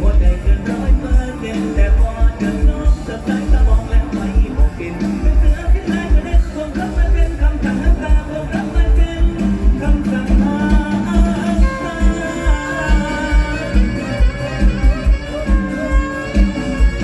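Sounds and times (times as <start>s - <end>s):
band music: 0.0s - 17.0s
steady bass drum beat: 0.0s - 17.0s.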